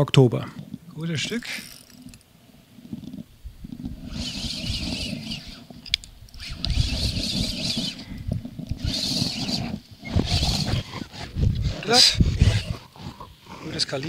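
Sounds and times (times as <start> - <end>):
low rumble of handling: 0.5 - 13.5
spinning reel cranking: 1.0 - 2.3, 3.0 - 13.2.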